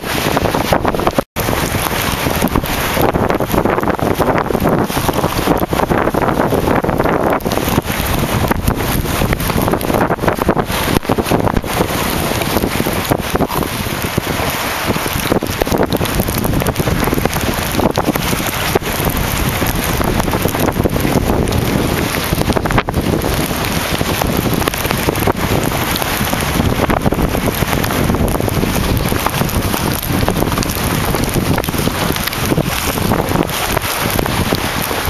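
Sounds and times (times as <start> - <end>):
strong wind on microphone: 0.0 - 35.0.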